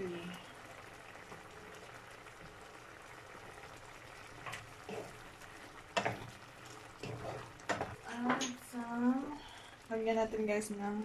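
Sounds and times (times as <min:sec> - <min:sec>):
sauce simmering in a pot: 0:00.0 - 0:11.0.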